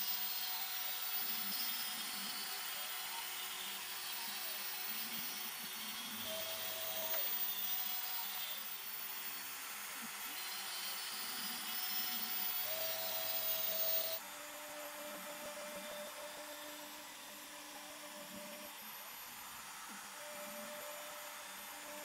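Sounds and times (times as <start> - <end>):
cnc router cutting wood: 0.0 - 22.0.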